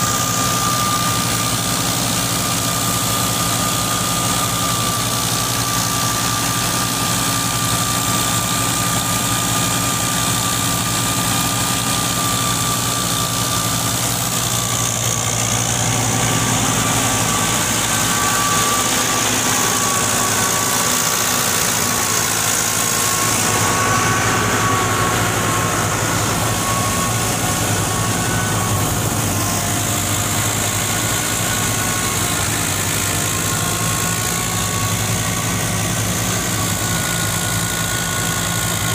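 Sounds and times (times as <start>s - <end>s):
high wavering whine: 0.0s - 38.8s
thresher running: 0.0s - 38.9s
tractor diesel engine under load: 0.0s - 38.9s.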